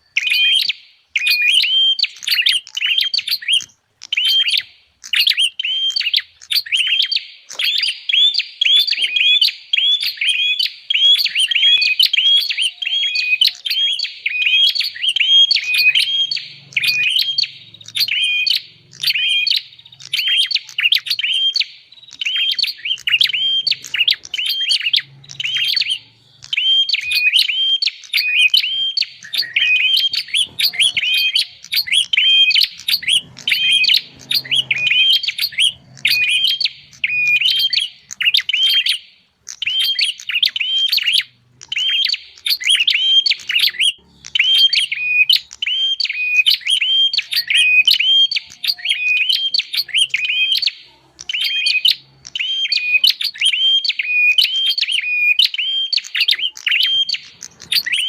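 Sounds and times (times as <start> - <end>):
bird chirping rapidly: 0.0 - 58.0.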